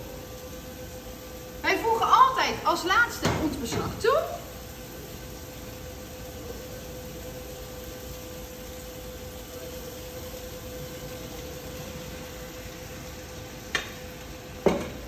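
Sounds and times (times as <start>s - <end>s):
vegetables frying in a pan: 0.0s - 15.0s.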